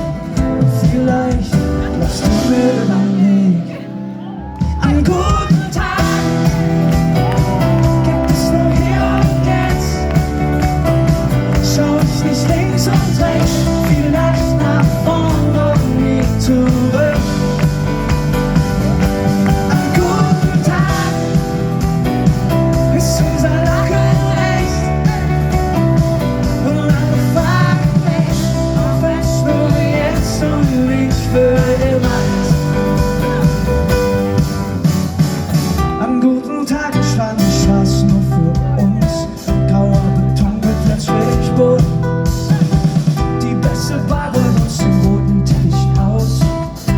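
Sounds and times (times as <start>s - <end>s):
acoustic pop band playing: 0.0s - 46.9s
person singing: 0.0s - 46.9s.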